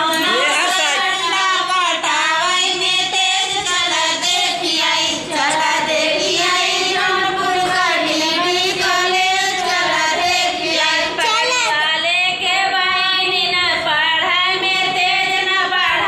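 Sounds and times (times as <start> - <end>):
women singing: 0.0 - 16.0.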